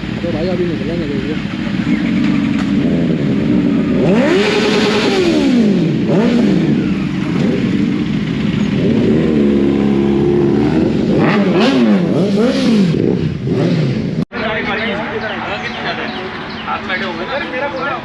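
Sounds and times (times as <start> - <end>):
motorcycles revving and accelerating: 0.0 - 18.0.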